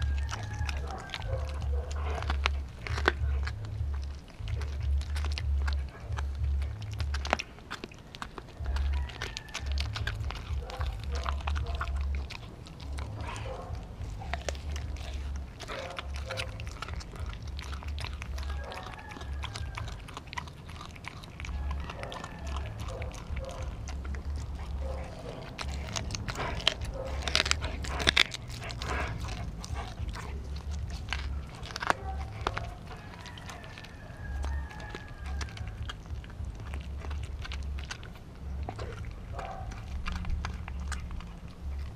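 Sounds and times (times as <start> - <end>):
dog gnawing on meat and bone: 0.0 - 41.9.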